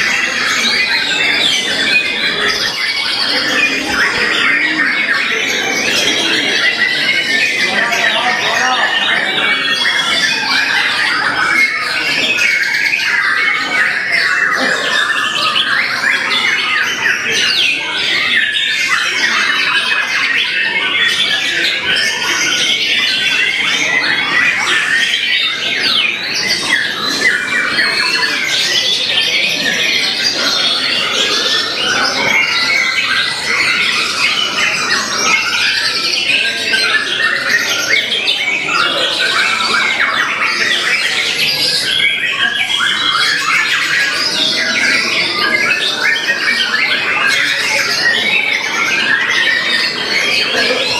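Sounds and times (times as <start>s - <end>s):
birds singing whistles and chirps: 0.0s - 50.9s.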